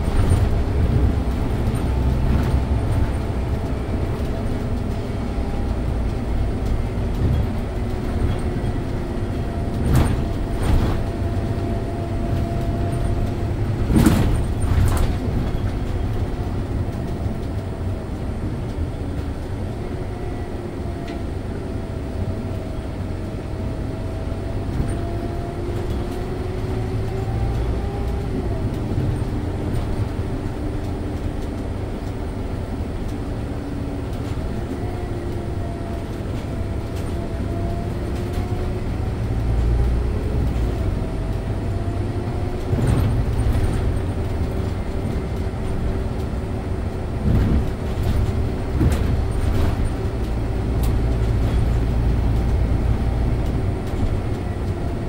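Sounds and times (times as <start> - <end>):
bus drivetrain and road rumble: 0.0 - 55.0.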